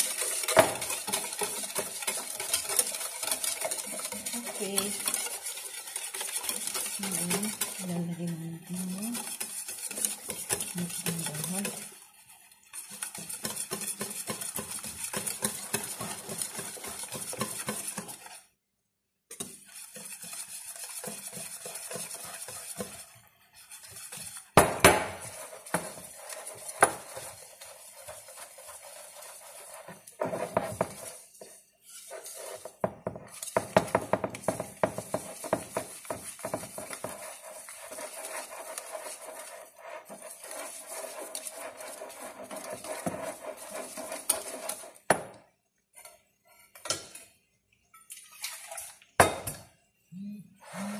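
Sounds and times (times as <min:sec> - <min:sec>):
batter mixing scraping bowl: 0:00.0 - 0:18.6, 0:19.2 - 0:47.1, 0:50.6 - 0:50.9.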